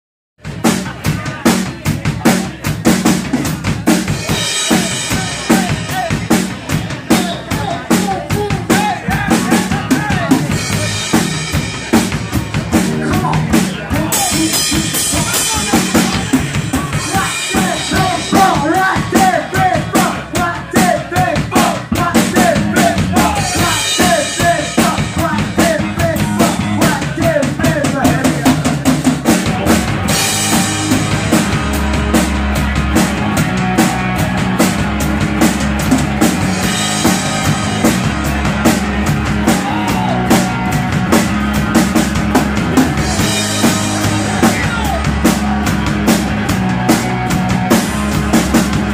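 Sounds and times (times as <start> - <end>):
drum kit beat: 0.4 - 48.9
rock band playing live: 0.4 - 48.9.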